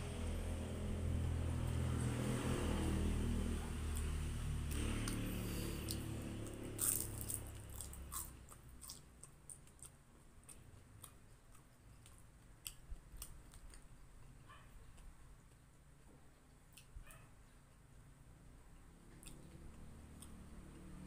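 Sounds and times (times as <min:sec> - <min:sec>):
crunchy chewing of fried food: 0:00.1 - 0:21.0.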